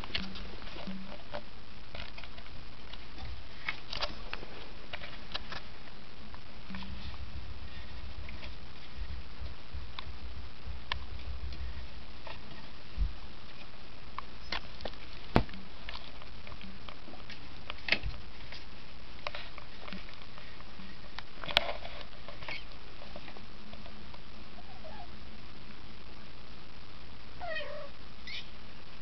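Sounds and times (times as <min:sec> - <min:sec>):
steady background hiss: 0:00.0 - 0:29.0.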